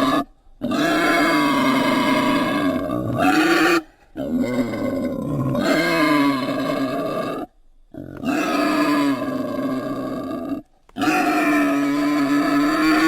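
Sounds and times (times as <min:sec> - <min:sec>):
creature calls: 0:00.0 - 0:13.0.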